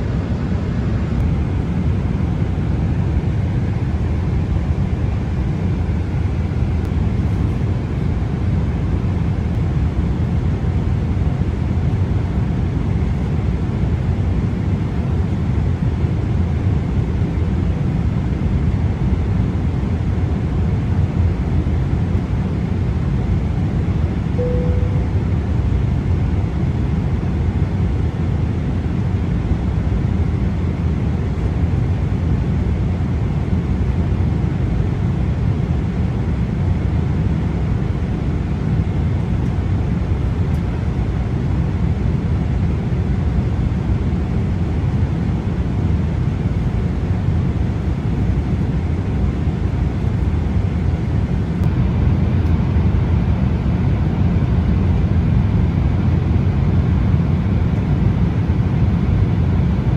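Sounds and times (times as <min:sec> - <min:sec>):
airliner cabin engine rush: 0:00.0 - 0:59.9.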